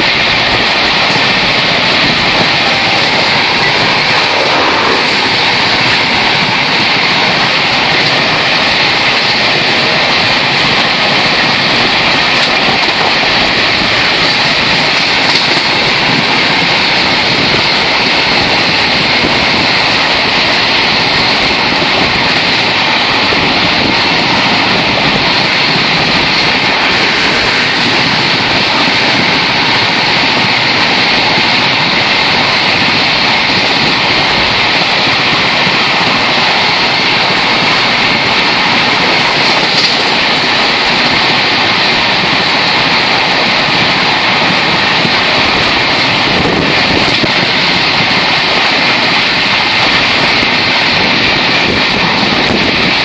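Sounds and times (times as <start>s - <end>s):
train wheels on rails: 0.0s - 53.0s
wind rushing past window: 0.0s - 53.0s.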